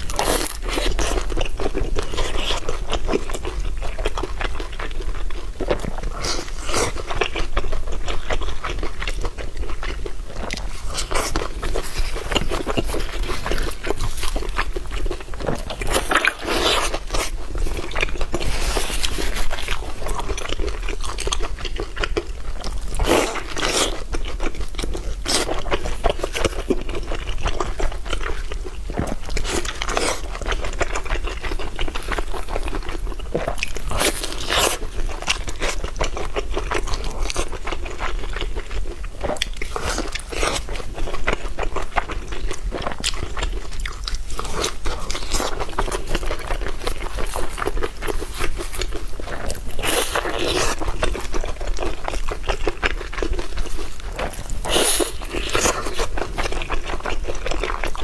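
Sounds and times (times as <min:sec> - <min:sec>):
wet chewing: 0:00.0 - 0:58.0.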